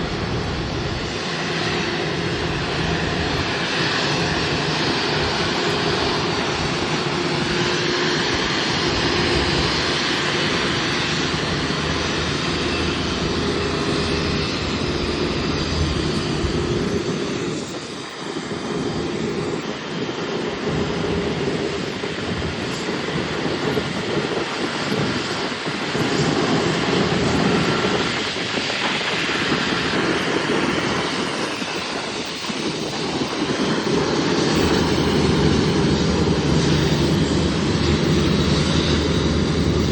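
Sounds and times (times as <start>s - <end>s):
airliner engines running: 0.0s - 39.9s.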